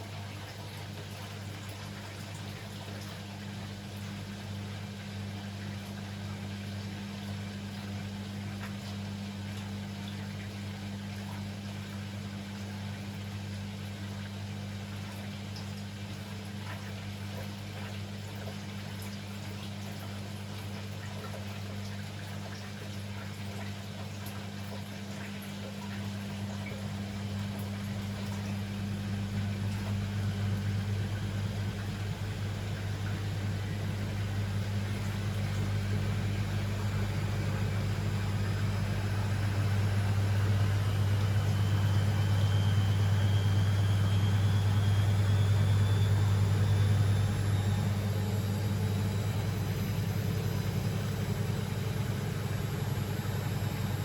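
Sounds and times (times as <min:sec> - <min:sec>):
washing machine humming: 0:00.0 - 0:54.0
water moving inside machine: 0:00.0 - 0:54.0.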